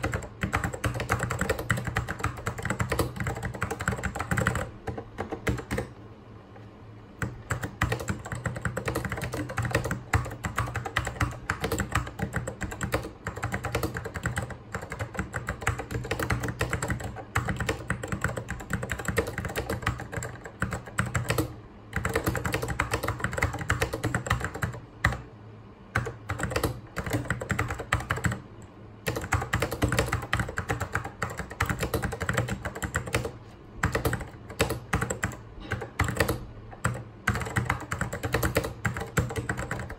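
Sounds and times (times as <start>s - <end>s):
fast typing on mechanical keyboard: 0.0s - 6.0s, 7.2s - 25.2s, 25.9s - 28.4s, 29.0s - 39.9s.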